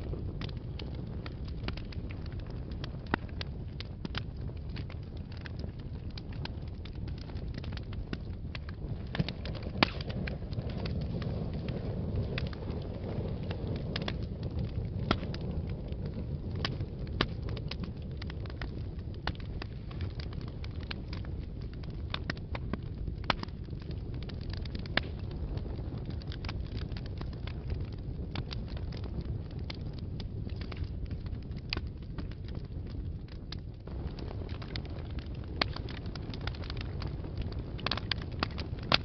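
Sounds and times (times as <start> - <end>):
fire crackling and popping: 0.0 - 39.0.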